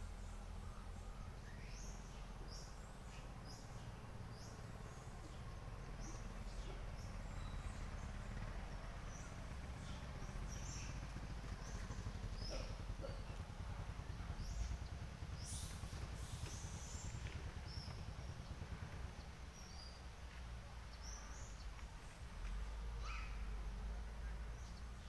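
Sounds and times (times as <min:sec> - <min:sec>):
birds chirping: 0:00.0 - 0:25.0
low outdoor rumble: 0:00.0 - 0:25.0.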